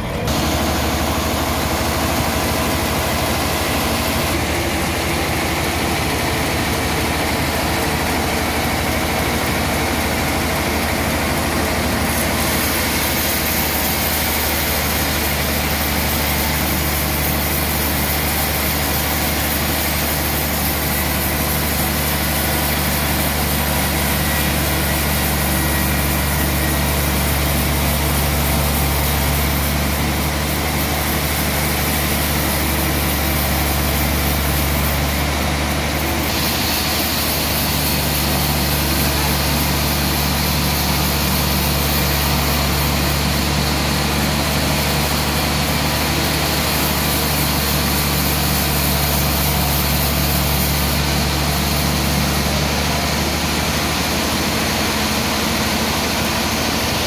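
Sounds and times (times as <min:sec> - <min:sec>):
band saw mill running: 0:00.0 - 0:57.0.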